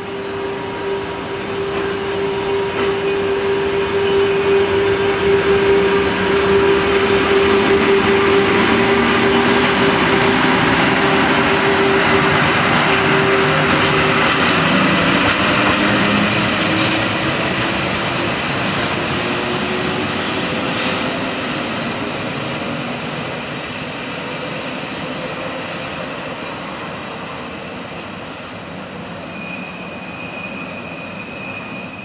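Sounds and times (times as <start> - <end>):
electric train rumbling on track: 0.0 - 32.0
train wheels squealing: 0.0 - 32.0.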